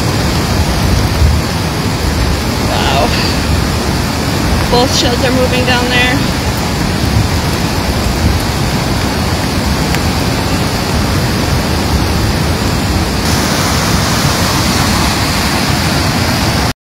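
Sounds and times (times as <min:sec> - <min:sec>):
flooded river roaring: 0:00.0 - 0:16.7.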